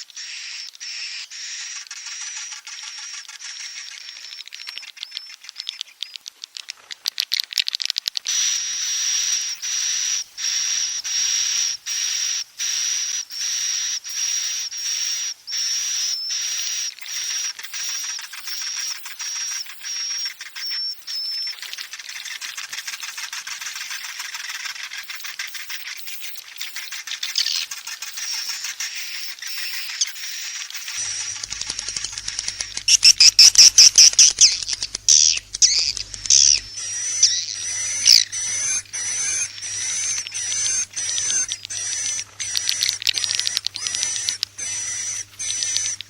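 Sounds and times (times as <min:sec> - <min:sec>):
buzzy chattering clicks: 0:00.1 - 0:46.0.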